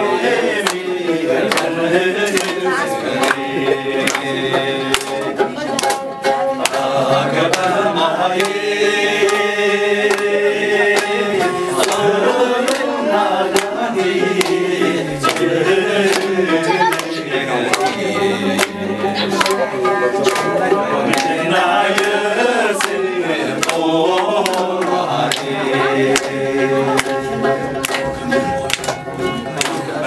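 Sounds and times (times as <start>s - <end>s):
men singing together: 0.0s - 5.4s, 6.6s - 27.4s
strummed string instrument: 0.0s - 30.0s
hand clapping: 0.2s - 30.0s.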